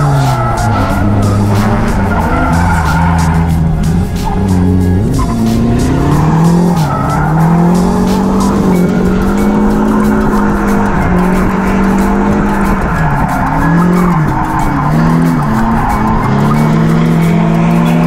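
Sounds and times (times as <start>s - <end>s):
car engine at high revs: 0.0s - 18.0s
tyres squealing: 0.0s - 18.0s.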